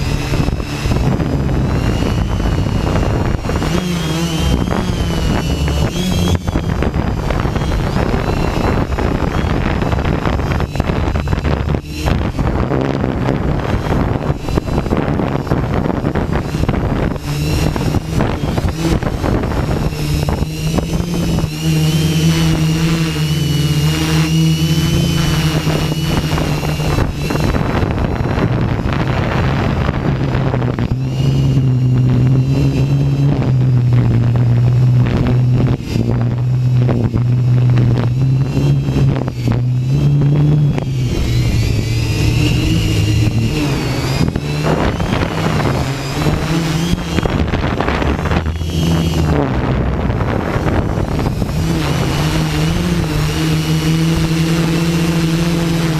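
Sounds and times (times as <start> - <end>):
drone propellers droning: 0.0 - 55.9
wind buffeting microphone: 0.0 - 55.9.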